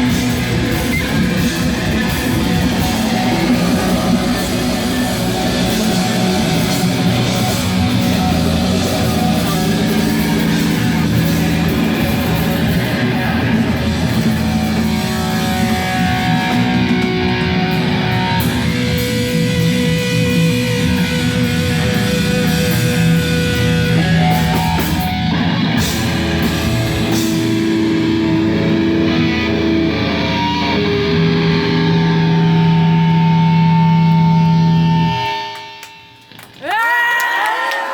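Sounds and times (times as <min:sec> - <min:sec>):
heavy rock band playing: 0:00.0 - 0:35.9
electric guitars: 0:00.0 - 0:37.9.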